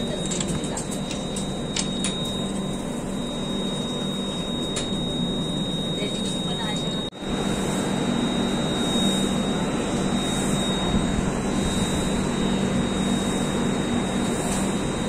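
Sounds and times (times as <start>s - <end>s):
constant low hum: 0.0s - 15.0s
train mechanical drone: 0.0s - 15.0s.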